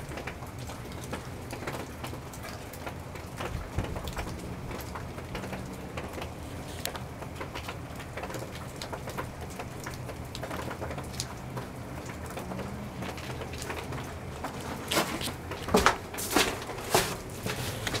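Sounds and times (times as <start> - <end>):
drip ticks: 0.0 - 14.6
rain falling: 0.0 - 18.0.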